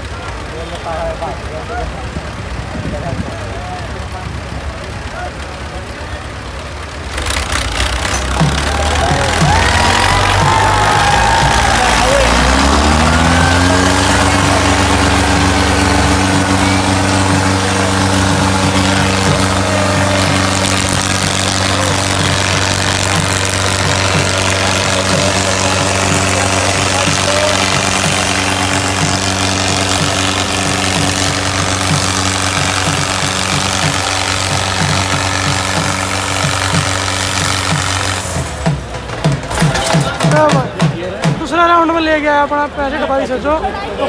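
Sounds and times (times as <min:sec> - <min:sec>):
tractor engines at high revs: 0:00.0 - 0:42.3.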